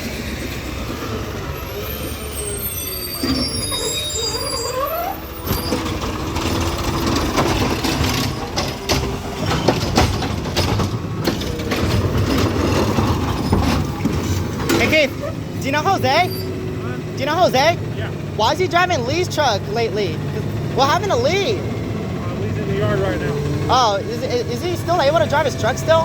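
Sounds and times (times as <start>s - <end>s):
brakes squealing: 0.0s - 26.0s
garbage truck engine running: 0.0s - 26.0s
truck rattling and clanking: 0.0s - 26.0s.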